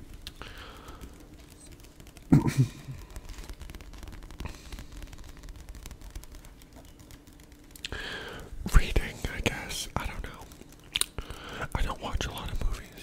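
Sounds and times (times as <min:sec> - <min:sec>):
book pages tapped and rubbed: 0:00.0 - 0:13.0.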